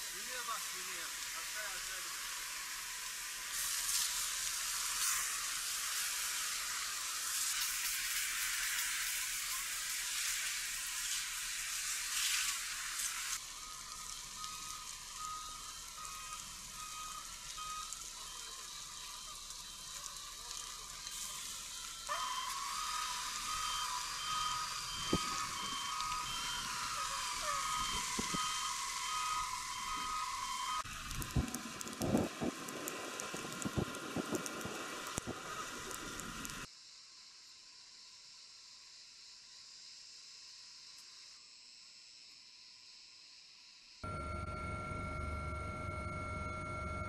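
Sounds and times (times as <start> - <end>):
fire crackling and hissing: 0.0 - 46.2.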